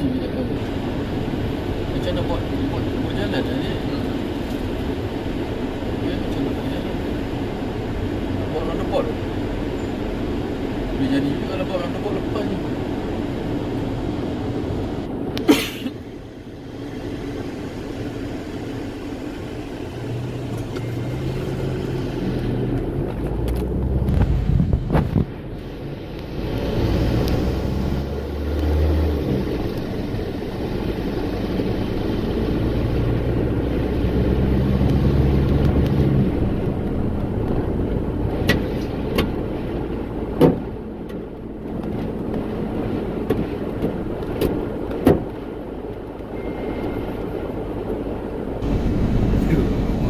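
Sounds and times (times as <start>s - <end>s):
car engine hum: 0.0s - 50.0s
road noise: 0.0s - 50.0s.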